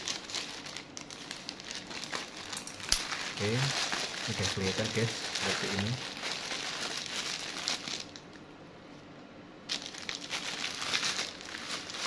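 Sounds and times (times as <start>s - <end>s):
plastic bag crinkling: 0.0s - 8.4s, 9.7s - 12.0s.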